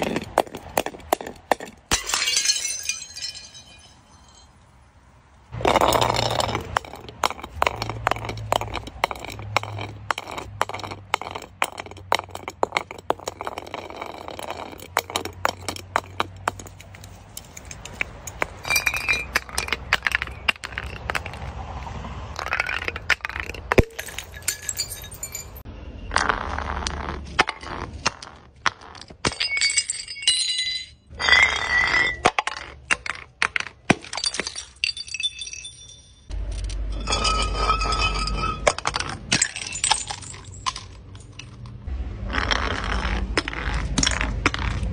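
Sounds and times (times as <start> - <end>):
glass bottles breaking on paving: 0.0 - 4.6, 5.6 - 21.5, 22.4 - 25.6, 28.6 - 41.6.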